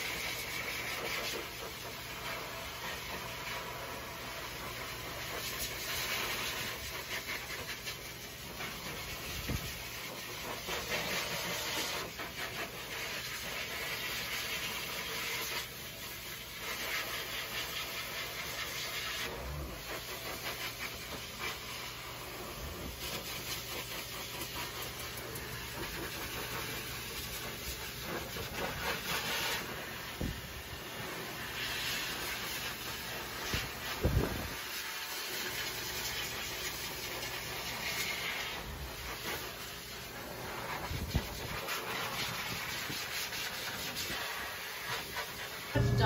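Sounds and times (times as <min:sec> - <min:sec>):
blow dryer blowing air: 0:00.0 - 0:46.0.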